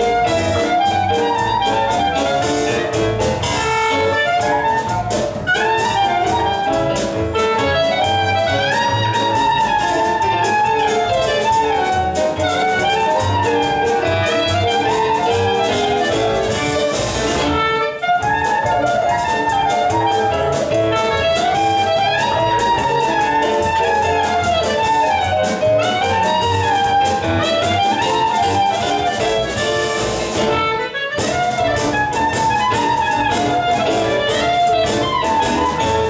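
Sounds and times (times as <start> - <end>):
clarinet melody: 0.0 - 36.0
drum kit: 0.0 - 36.0
upright bass: 0.0 - 36.0.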